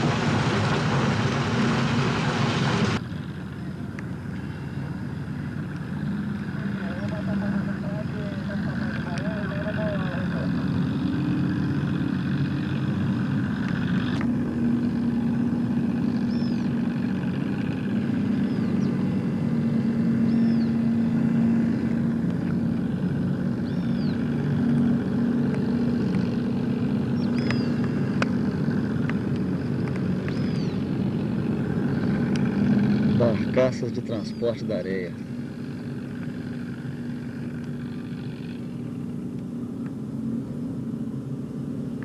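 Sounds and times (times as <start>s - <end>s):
engine running with low hum: 0.0s - 42.0s.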